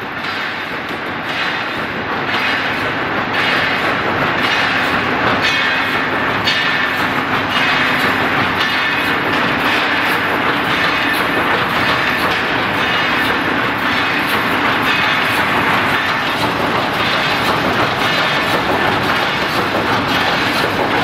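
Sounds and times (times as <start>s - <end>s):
wire mesh machine clattering: 0.0s - 21.0s.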